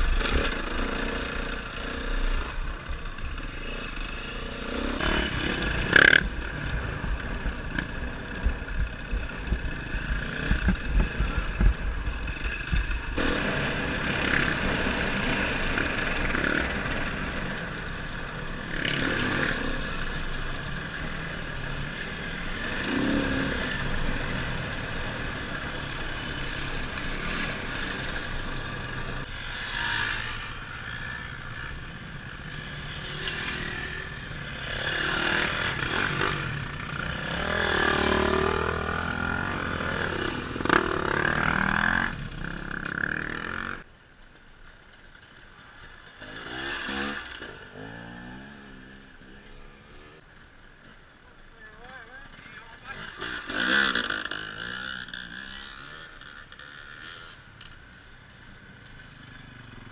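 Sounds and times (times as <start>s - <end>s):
dirt bike engine revving: 0.0s - 43.9s, 46.0s - 50.2s, 52.2s - 57.5s.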